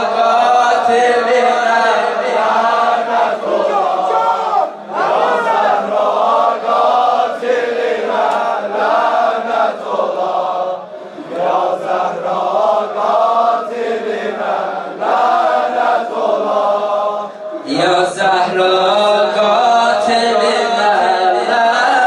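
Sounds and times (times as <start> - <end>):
voices chanting together: 0.0 - 22.0.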